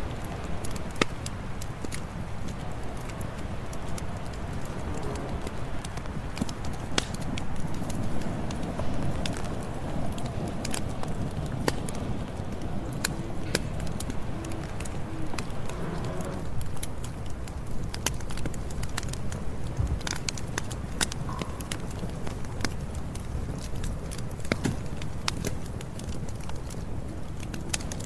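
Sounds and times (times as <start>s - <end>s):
low rumble of flame: 0.0s - 28.0s
wood crackling and popping: 0.0s - 28.0s.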